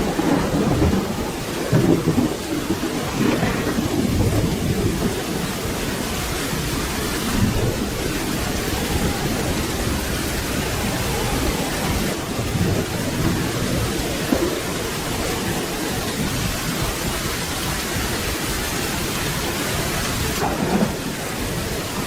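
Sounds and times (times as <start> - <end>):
distant thunder rumble: 0.0 - 22.0
steady rain: 0.0 - 22.0.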